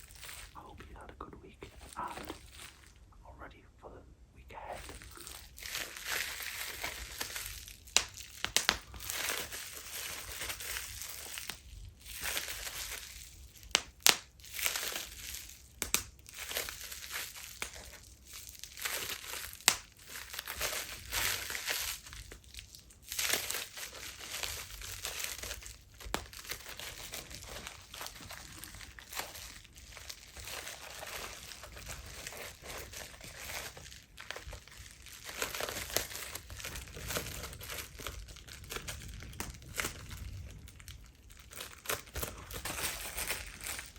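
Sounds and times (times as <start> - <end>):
bubble wrap bubbles popping: 0.0 - 3.0, 4.6 - 43.9
bubble wrap crinkling: 0.0 - 3.1, 4.5 - 43.9.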